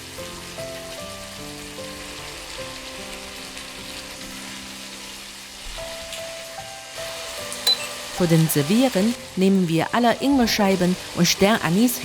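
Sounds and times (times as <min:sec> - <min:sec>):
food sizzling in a pan: 0:00.0 - 0:12.0
soft background music: 0:00.0 - 0:12.0.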